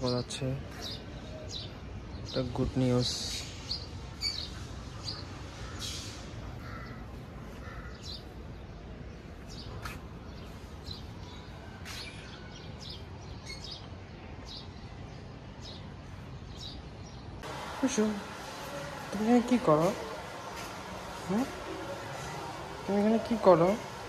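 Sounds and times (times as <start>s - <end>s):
low background noise: 0.0s - 24.0s
small birds chirping: 0.0s - 24.0s.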